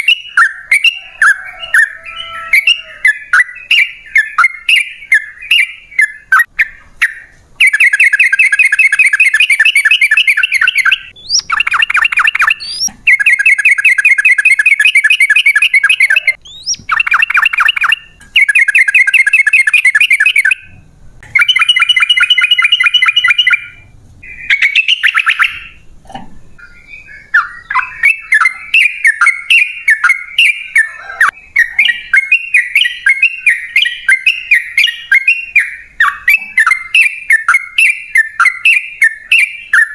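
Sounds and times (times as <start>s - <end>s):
bulbul singing rapid trills: 0.0s - 25.8s, 26.6s - 39.9s.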